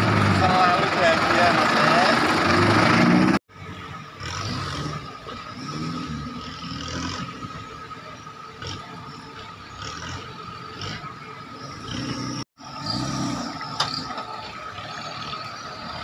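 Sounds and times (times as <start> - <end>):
loud engine sound: 0.0 - 16.0
off-road vehicle engine revving: 0.0 - 16.0.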